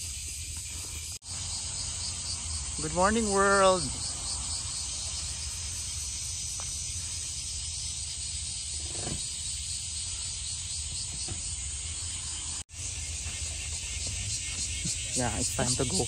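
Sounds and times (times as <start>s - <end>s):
insects hissing in grass: 0.0s - 16.0s.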